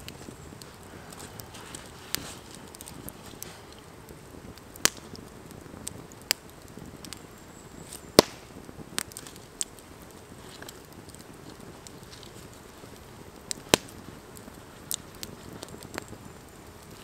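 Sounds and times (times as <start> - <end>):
low steady hiss: 0.0 - 17.0
sharp pops from fire: 0.0 - 17.0
wood campfire crackling: 0.0 - 17.0.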